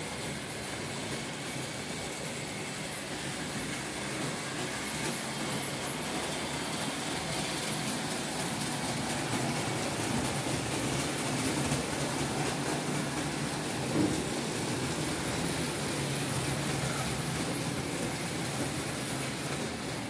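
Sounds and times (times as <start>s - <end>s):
model train motors whirring: 0.0s - 20.0s
wheels rolling on metal track: 0.0s - 20.0s.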